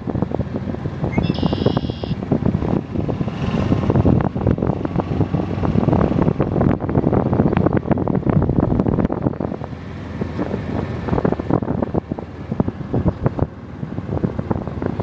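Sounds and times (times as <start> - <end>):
golf cart running: 0.0 - 15.0
wind buffeting microphone: 0.0 - 15.0.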